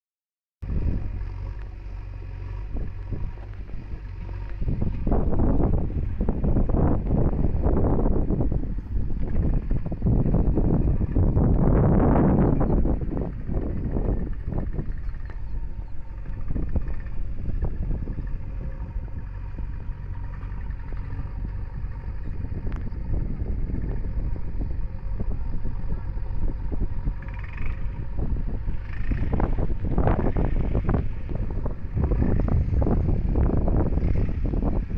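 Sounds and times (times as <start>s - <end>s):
diesel engines running: 0.6s - 34.9s
wind buffeting microphone: 0.6s - 34.9s.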